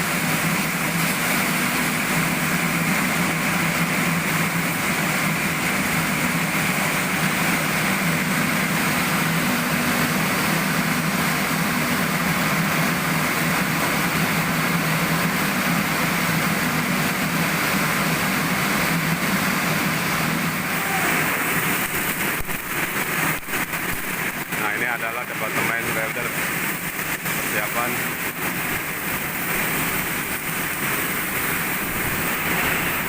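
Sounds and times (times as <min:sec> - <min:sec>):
machinery running: 0:00.0 - 0:33.0.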